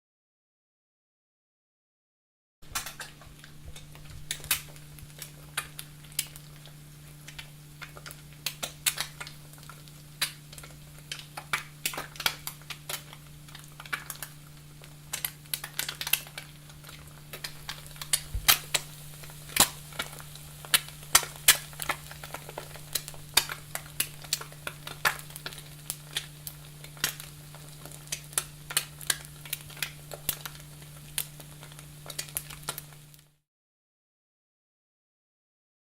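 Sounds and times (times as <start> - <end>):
eggs sizzling in a pan: 2.7 - 33.4.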